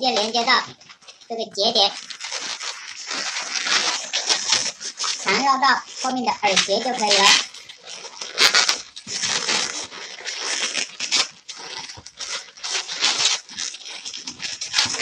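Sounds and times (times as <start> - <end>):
balloons rubbing and rustling: 0.0 - 15.0.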